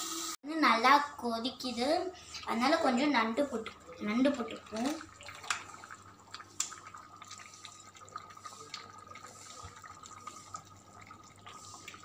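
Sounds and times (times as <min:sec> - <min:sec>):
gravy bubbling in a pan: 0:01.7 - 0:12.0.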